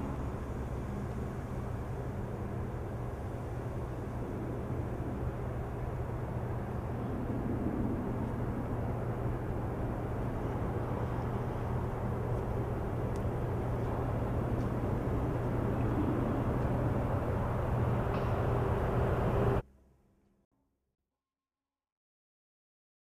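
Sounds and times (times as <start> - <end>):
constant low hum: 0.0 - 20.4
low outdoor rumble: 0.0 - 20.4.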